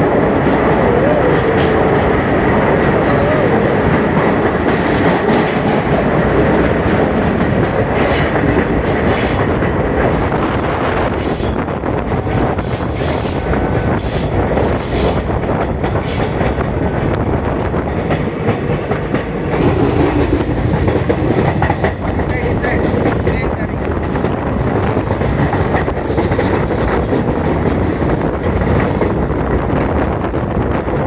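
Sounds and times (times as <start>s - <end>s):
train clattering: 0.0s - 31.0s
train wheels on track: 0.0s - 31.0s.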